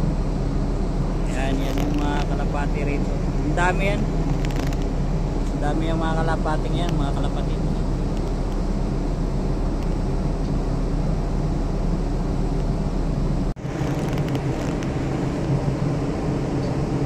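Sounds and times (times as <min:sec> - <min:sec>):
low hum of ship machinery: 0:00.0 - 0:17.0.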